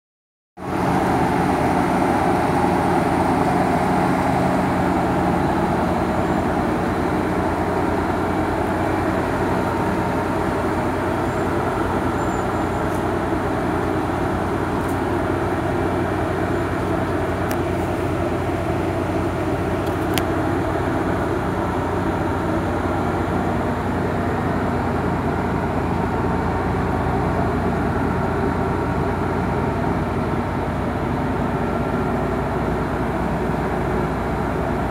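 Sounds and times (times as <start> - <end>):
car engine idling: 0.6 - 34.9.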